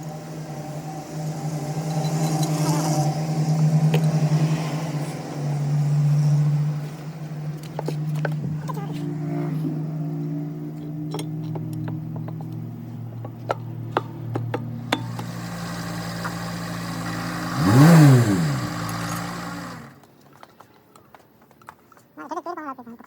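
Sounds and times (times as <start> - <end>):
engine idling and revving: 0.0 - 20.0.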